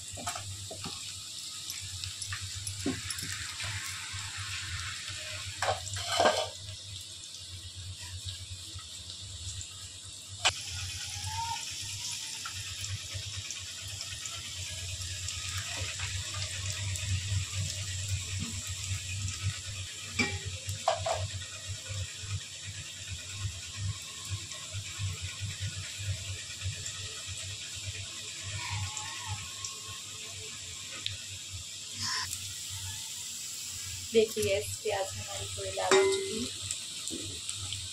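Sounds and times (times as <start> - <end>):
onions sizzling in hot oil: 0.0 - 37.9.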